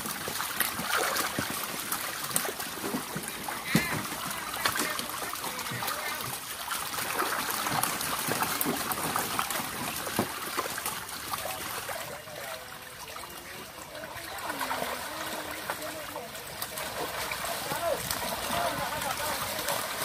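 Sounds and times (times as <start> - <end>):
fish thrashing in water: 0.0 - 20.0
water splashing and trickling: 0.0 - 20.0.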